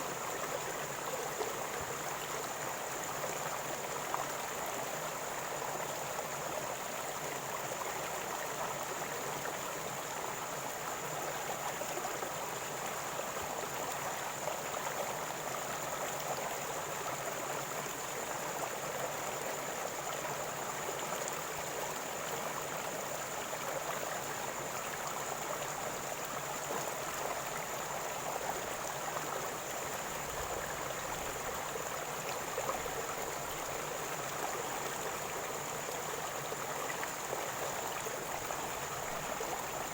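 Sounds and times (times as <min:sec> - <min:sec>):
river water flowing and gurgling: 0:00.0 - 0:39.9.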